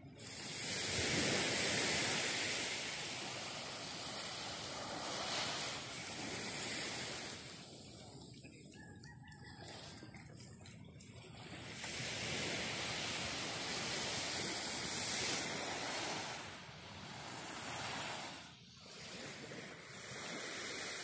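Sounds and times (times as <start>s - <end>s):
small waves hissing on beach: 0.0s - 10.4s, 11.0s - 21.0s.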